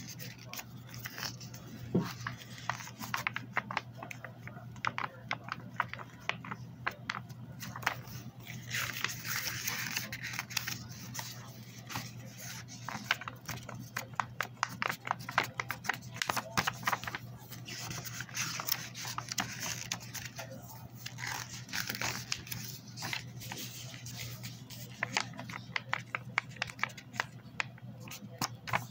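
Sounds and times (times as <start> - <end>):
book pages flipping: 0.0 - 28.9
paper rustling: 0.0 - 28.9.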